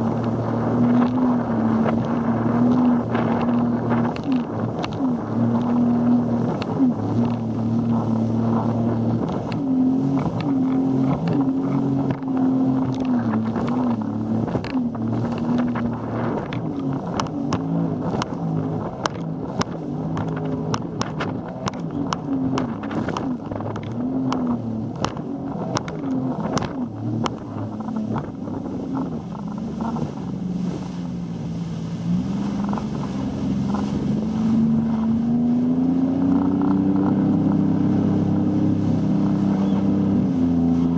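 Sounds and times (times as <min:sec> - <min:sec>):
motorboat engine running: 0:00.0 - 0:40.9
steady rushing noise: 0:00.0 - 0:40.9.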